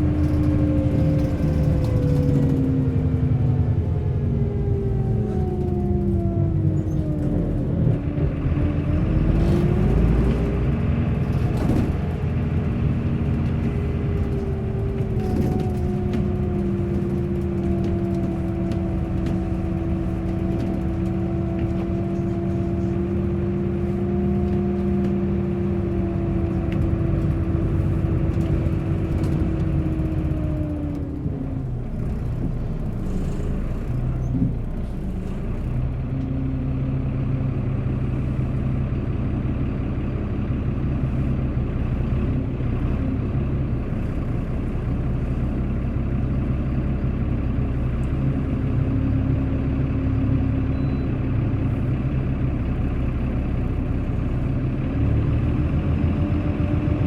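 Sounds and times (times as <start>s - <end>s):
bus engine rumbling: 0.0s - 57.0s.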